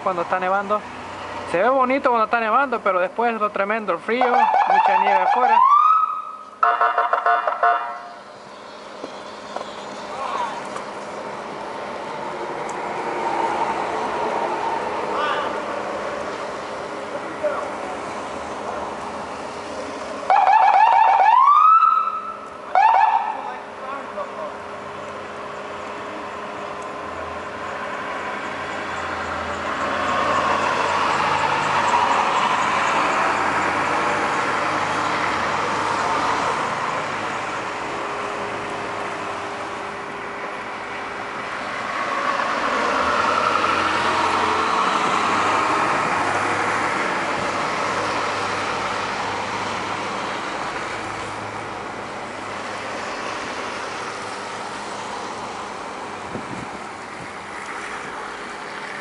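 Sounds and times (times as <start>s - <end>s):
vehicles passing in snow: 0.0s - 59.0s.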